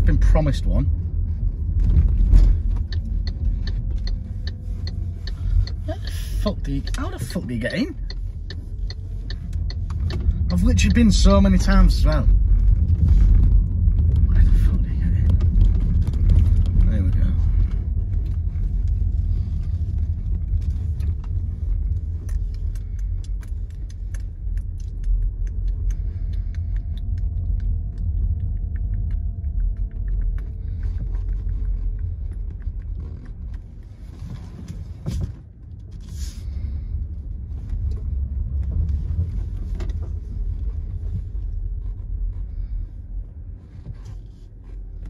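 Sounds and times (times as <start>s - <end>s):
car engine rumble and road noise: 0.0s - 45.0s.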